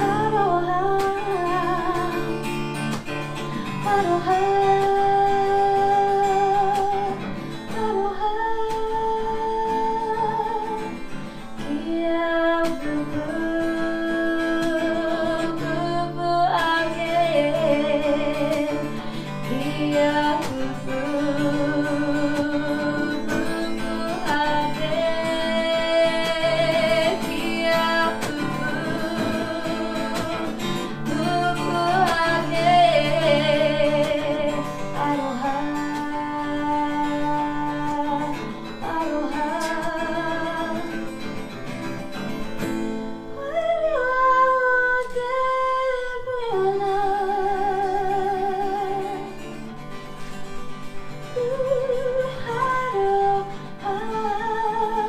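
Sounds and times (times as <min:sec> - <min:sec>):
person singing with vibrato: 0:00.0 - 0:41.9, 0:43.2 - 0:49.7, 0:51.2 - 0:55.0
acoustic guitar strumming: 0:00.0 - 0:55.0.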